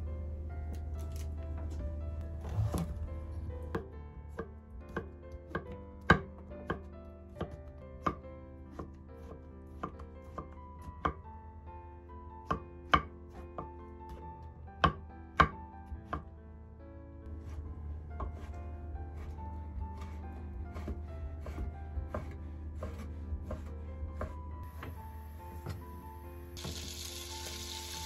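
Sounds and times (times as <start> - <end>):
light background music: 0.0 - 28.0.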